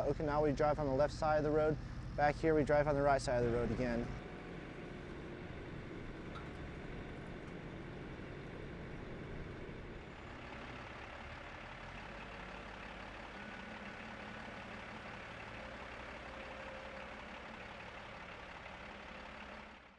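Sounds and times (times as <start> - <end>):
truck engine rumbling: 0.0 - 19.9.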